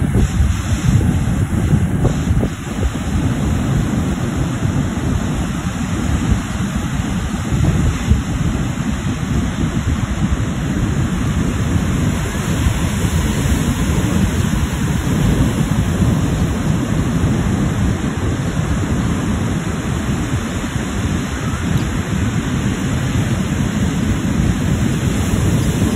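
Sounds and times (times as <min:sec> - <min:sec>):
breaking surf: 0:00.0 - 0:25.9
wind buffeting microphone: 0:00.0 - 0:25.9.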